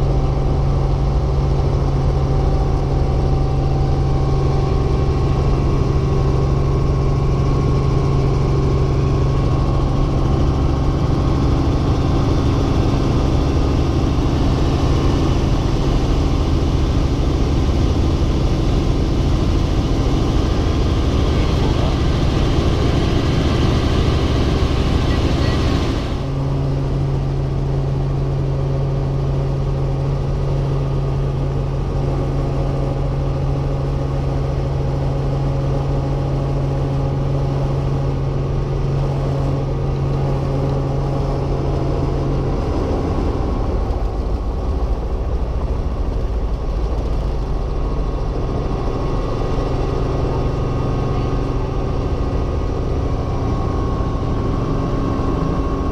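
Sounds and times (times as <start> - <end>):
helicopter drone: 0.0 - 55.9
low hum: 0.0 - 55.9.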